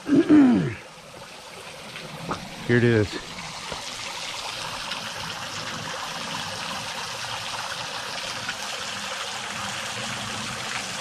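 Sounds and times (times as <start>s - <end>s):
small waterfall splashing: 0.0s - 11.0s.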